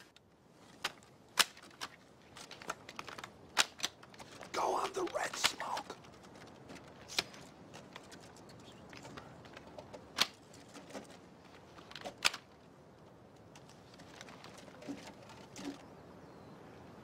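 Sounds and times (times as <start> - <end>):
metallic clicks of bayonets: 0.0 - 15.8.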